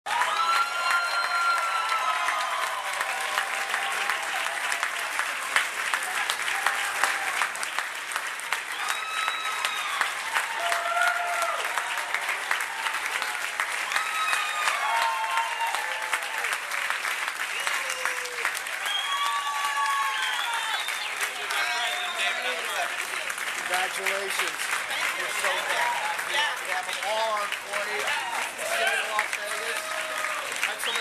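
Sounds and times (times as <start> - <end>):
large crowd clapping: 0.0 - 31.0.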